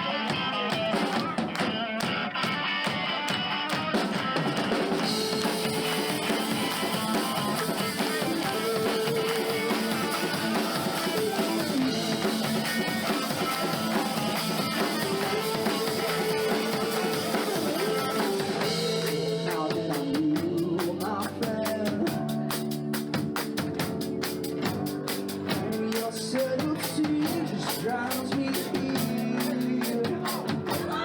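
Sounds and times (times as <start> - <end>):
drums: 0.0 - 31.0
live rock band playing: 0.0 - 31.0.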